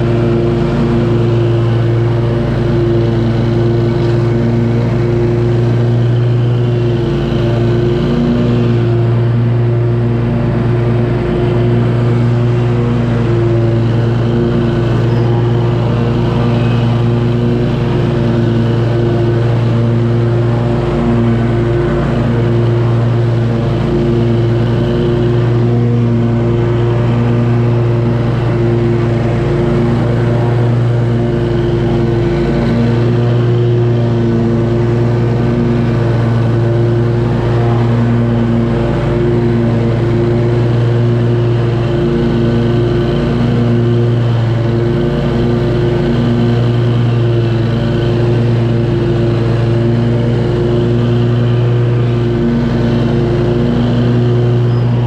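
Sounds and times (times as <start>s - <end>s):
lawn mower cutting grass: 0.0s - 55.0s.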